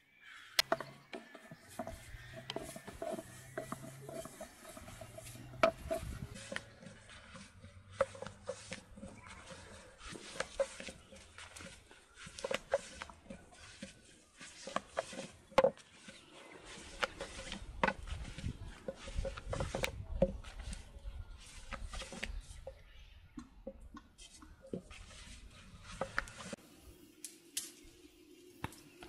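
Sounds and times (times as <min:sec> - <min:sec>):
rolling pin scraping dough: 0:00.6 - 0:22.9, 0:24.2 - 0:26.6.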